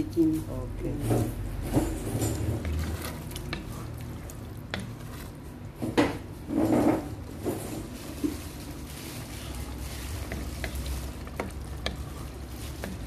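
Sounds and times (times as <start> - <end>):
wooden spoon stirring in pot: 0.0 - 13.0.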